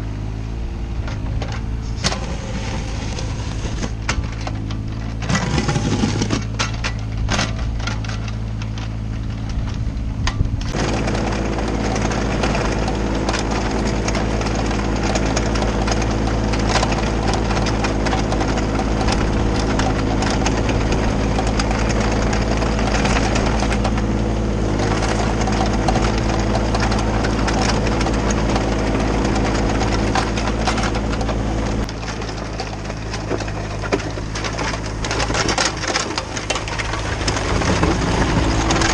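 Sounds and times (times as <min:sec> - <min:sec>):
excavator diesel engine running: 0:00.0 - 0:38.9
gravel crunching and scraping: 0:00.0 - 0:38.9.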